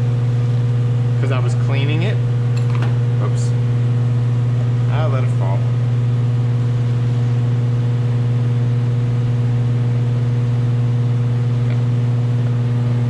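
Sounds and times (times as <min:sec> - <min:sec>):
electric motor hum: 0:00.0 - 0:13.0.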